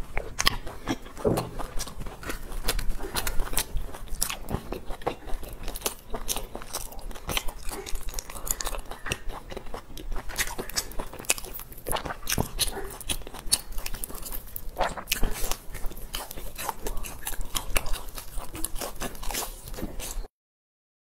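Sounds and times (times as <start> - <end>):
chewing crisp fried cake: 0.0 - 20.3.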